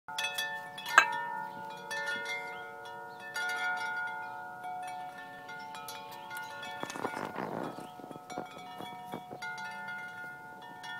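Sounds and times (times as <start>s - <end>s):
large wind chime ringing: 0.1s - 10.9s.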